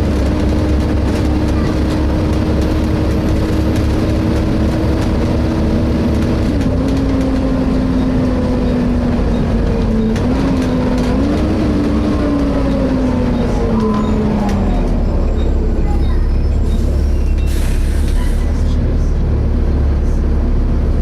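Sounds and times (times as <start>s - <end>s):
diesel bus engine rumble: 0.0s - 21.0s.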